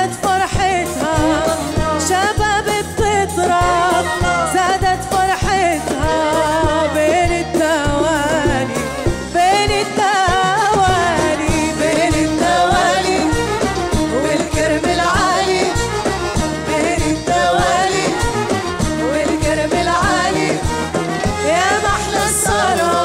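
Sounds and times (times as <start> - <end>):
band with violin and bass: 0.0 - 23.0
woman singing with vibrato: 0.0 - 23.0.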